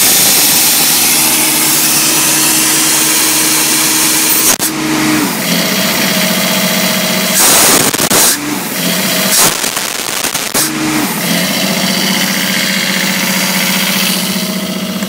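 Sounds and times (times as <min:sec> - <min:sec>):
loud rushing noise: 0:00.0 - 0:14.9
diesel engine running: 0:00.0 - 0:15.0.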